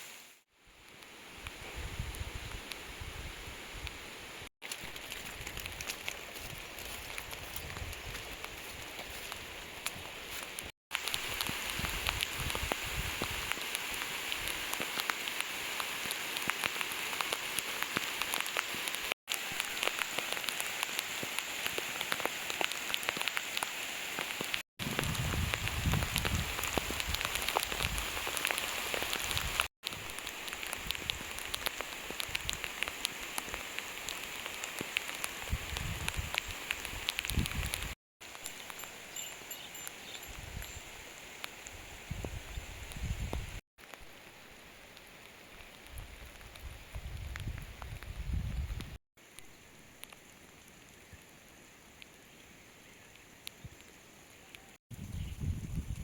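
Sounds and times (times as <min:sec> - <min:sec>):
water splashing and crackling: 0:04.6 - 0:54.8.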